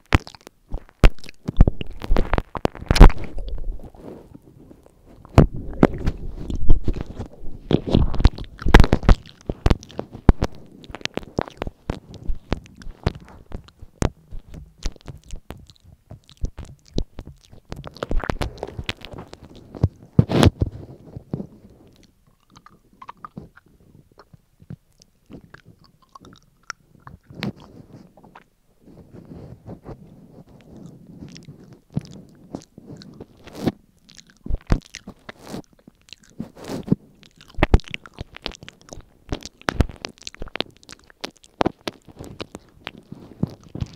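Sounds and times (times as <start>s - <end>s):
lips smacking: 0.0s - 43.9s
tongue licking a microphone: 0.0s - 43.9s.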